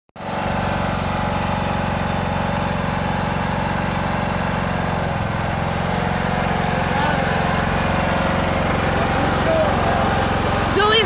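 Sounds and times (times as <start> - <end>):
lawn mower engine running: 0.2 - 11.0.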